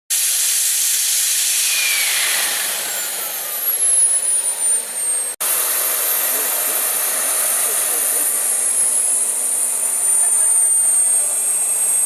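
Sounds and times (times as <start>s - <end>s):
model jet turbine hiss and whine: 0.1s - 12.0s.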